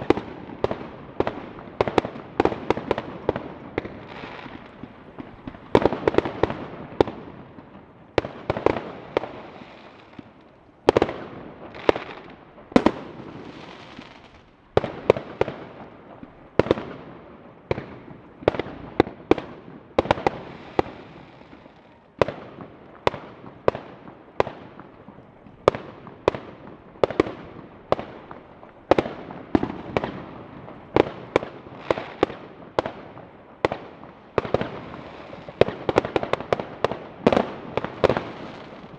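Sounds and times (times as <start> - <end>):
fireworks bangs with crackle: 0.0 - 38.9.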